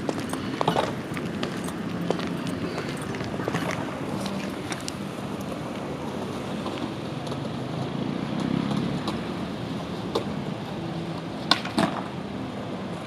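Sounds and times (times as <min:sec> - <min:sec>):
engine rumbling: 0:00.0 - 0:13.0
wind: 0:00.0 - 0:13.0.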